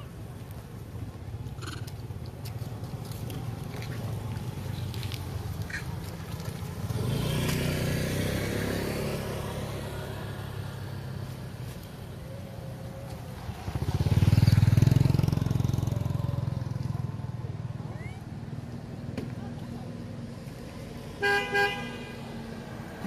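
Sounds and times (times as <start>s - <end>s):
motorbikes passing by: 0.0s - 23.0s.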